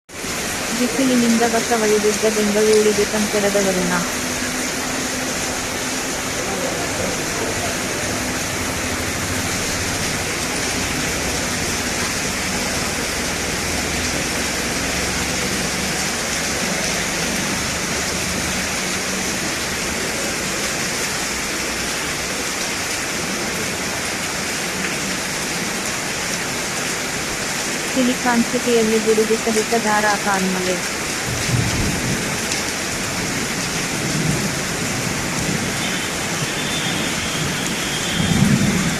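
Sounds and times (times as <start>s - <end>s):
heavy rain pouring: 0.1s - 38.9s.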